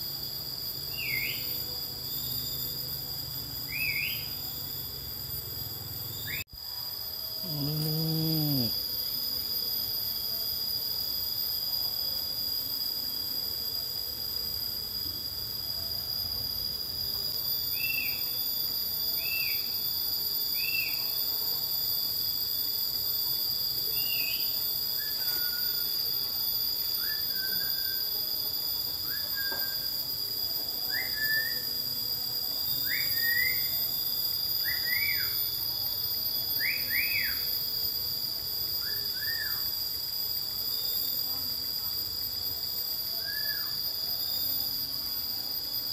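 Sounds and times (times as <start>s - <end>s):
shrill insect chorus: 0.0s - 45.9s.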